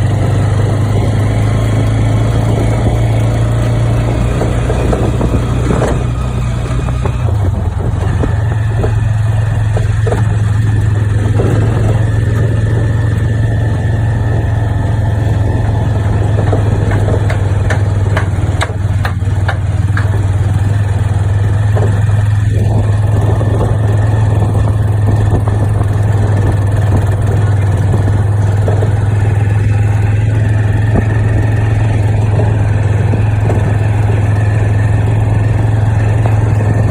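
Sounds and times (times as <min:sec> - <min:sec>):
engine humming: 0:00.0 - 0:36.9.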